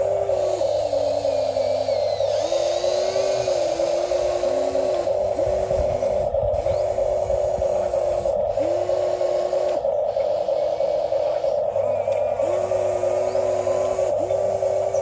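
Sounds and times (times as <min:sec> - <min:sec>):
electric motor hum: 0:00.0 - 0:15.0
lower motor whine: 0:00.0 - 0:15.0.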